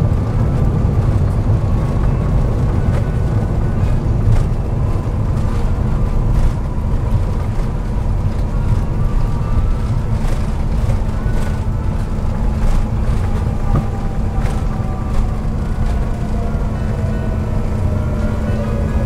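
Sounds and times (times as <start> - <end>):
loud low rumble of taxiing plane: 0.0 - 19.0.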